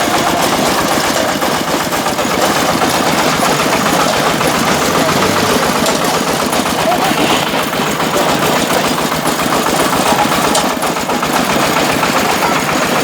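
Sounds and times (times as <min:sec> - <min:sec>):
fast dense clattering: 0:00.0 - 0:13.0
brick-breaking machine engine drone: 0:00.2 - 0:13.0.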